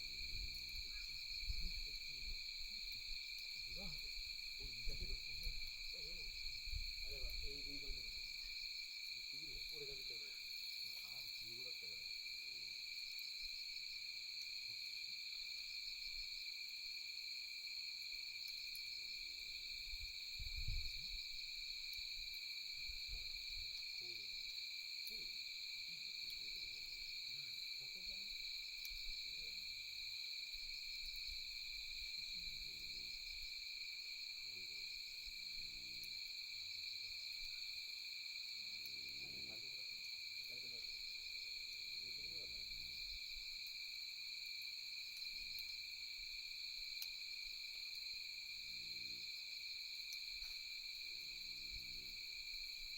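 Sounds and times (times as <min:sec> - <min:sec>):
night insects trilling: 0:00.0 - 0:52.9.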